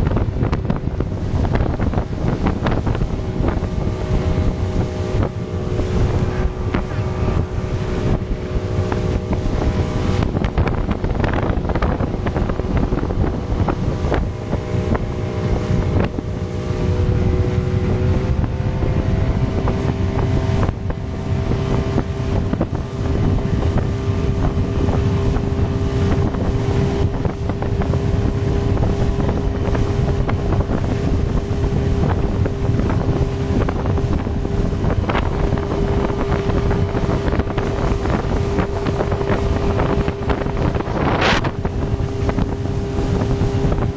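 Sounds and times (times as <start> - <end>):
outboard motor running hard: 0.0 - 43.9
water rushing past hull: 0.0 - 43.9
wind buffeting microphone: 0.0 - 43.9.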